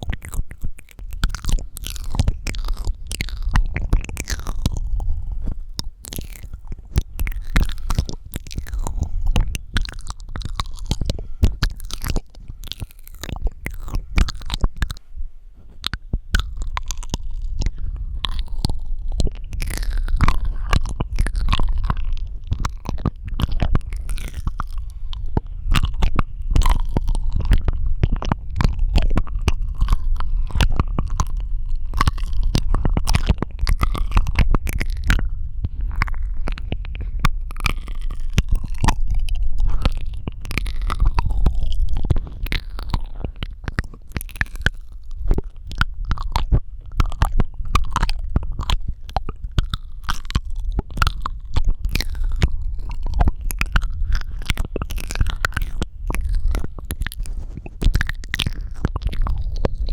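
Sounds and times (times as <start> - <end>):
wet mouth clicks and smacks: 0.0 - 15.1, 15.7 - 59.9
heavy low rumble: 0.0 - 59.9.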